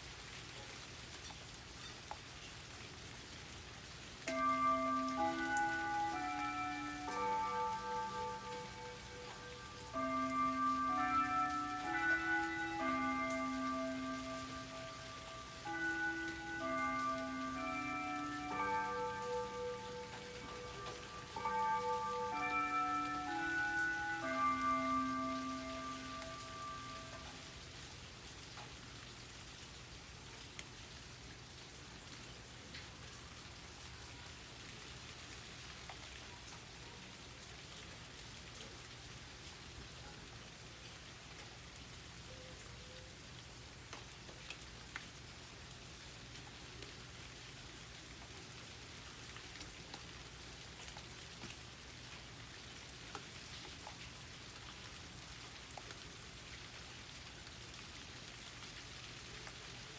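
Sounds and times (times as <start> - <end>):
light rain falling: 0.0 - 59.9.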